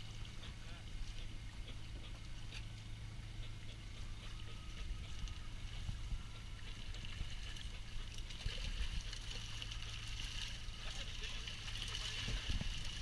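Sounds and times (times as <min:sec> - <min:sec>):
boat engine hum: 0:00.0 - 0:13.0
water splashing and sloshing: 0:00.0 - 0:13.0.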